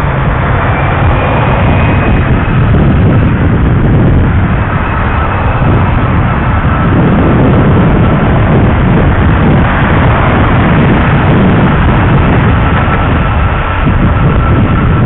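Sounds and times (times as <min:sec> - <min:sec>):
road traffic noise: 0:00.0 - 0:15.0
wind rumble on microphone: 0:00.0 - 0:15.0.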